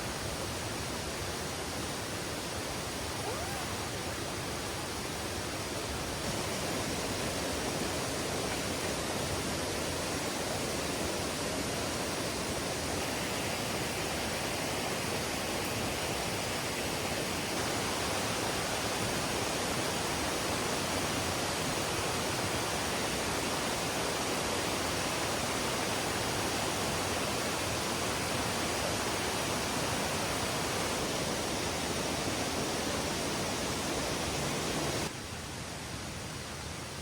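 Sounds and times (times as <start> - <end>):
stream rushing over rocks: 0.0 - 37.0.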